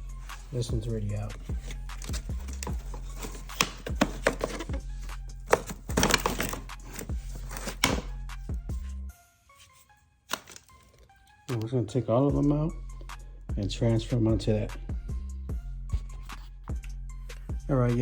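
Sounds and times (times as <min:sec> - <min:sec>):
background music with bass: 0:00.0 - 0:09.2, 0:11.3 - 0:18.0.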